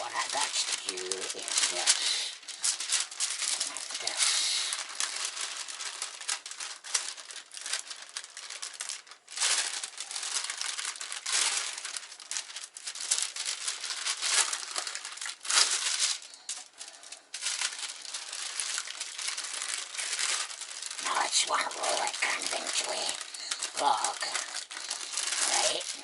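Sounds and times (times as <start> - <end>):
wax paper crinkling: 0.0 - 26.0.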